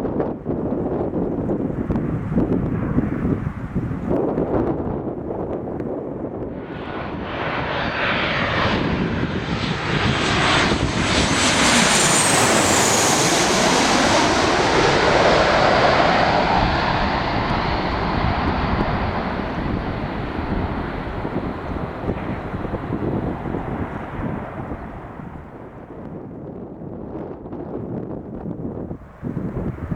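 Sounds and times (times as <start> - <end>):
airliner passing overhead: 0.0 - 29.9.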